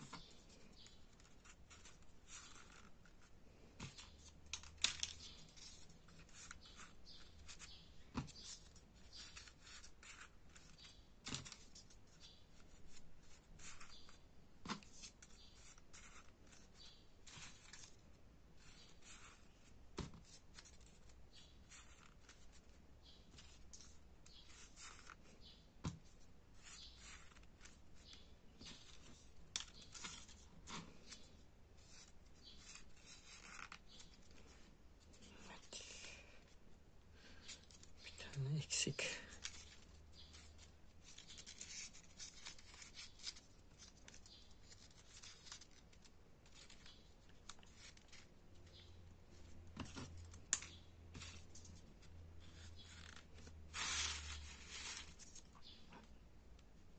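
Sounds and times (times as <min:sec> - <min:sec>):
paper rustling and crinkling: 0:00.0 - 0:35.8, 0:39.2 - 0:56.1.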